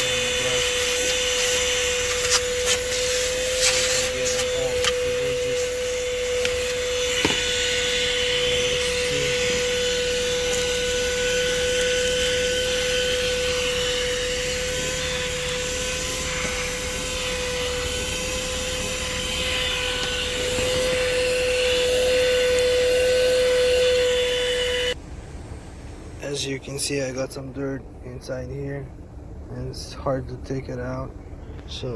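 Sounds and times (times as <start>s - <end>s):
car vacuum cleaner whining: 0.0s - 27.0s.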